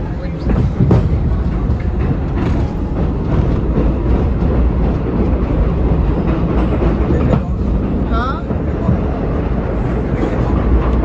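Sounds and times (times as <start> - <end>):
rail joint clicks: 0.0 - 11.0
subway train wheels rumbling: 0.0 - 11.0.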